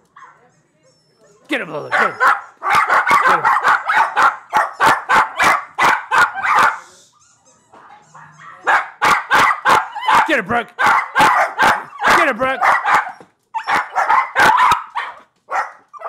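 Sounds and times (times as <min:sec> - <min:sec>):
puppies yapping: 0:00.2 - 0:16.0.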